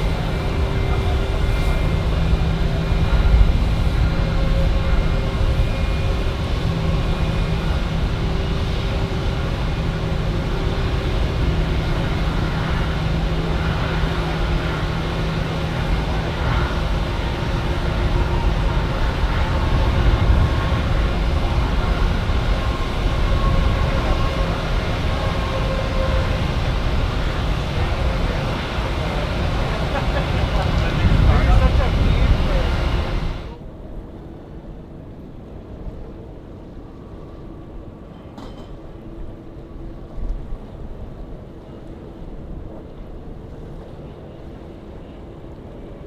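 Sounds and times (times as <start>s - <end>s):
jet engines rumbling: 0.0s - 46.0s.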